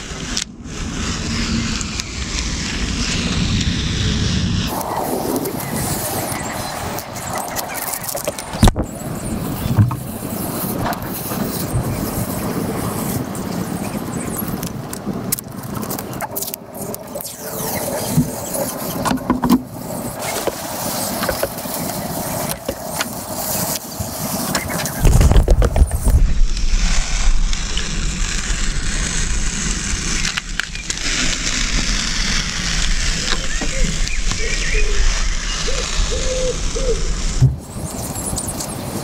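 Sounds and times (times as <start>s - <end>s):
low rumble: 0.0s - 23.5s, 24.1s - 37.8s.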